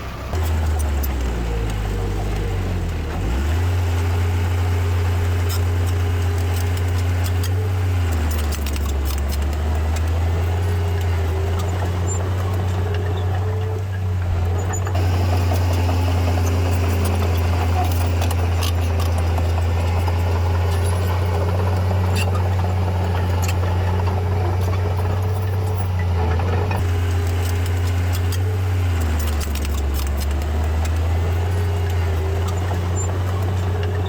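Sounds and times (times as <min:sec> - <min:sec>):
bulldozer diesel engine droning: 0:00.0 - 0:34.0
scattered clicks and knocks: 0:04.8 - 0:34.0.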